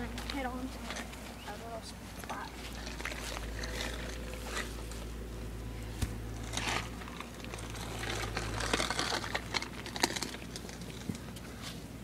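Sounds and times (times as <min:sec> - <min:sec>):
leaf litter rustling and crackling: 0:00.0 - 0:11.9.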